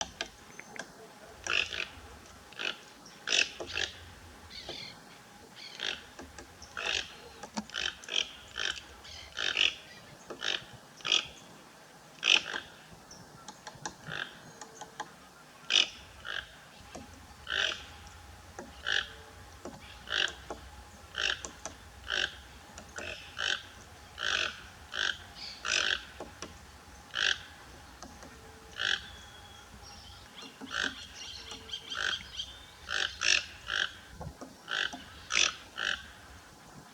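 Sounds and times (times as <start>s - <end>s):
bird harsh calls: 0.0s - 11.6s, 12.2s - 36.4s.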